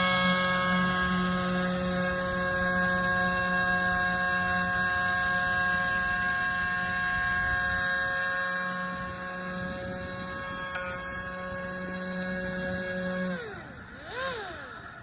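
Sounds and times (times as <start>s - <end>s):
electric motor and propeller whine: 0.0s - 15.0s.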